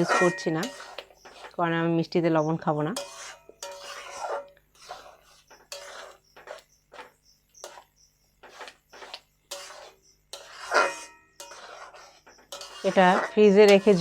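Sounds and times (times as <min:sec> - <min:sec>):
spoon scraping a pan: 0:00.0 - 0:14.0.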